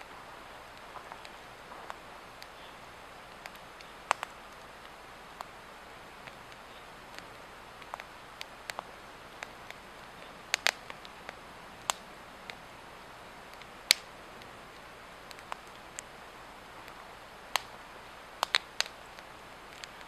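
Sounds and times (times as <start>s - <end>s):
log fire crackling and popping: 0.0s - 20.0s.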